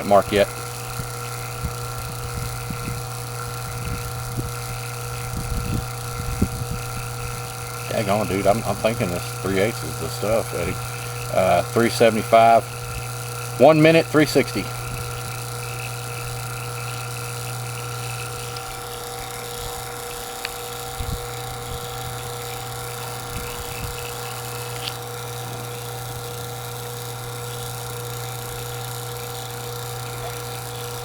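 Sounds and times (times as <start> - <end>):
vacuum pump running: 0.0 - 31.0.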